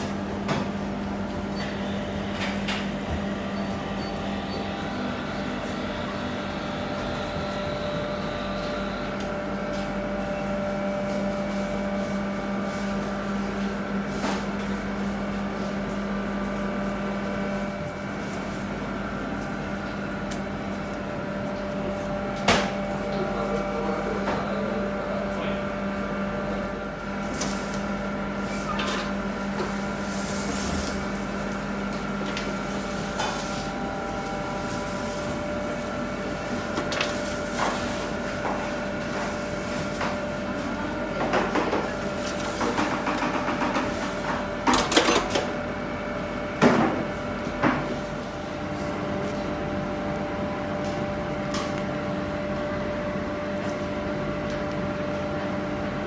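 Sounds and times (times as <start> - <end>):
kitchen machinery hum: 0.0 - 56.0.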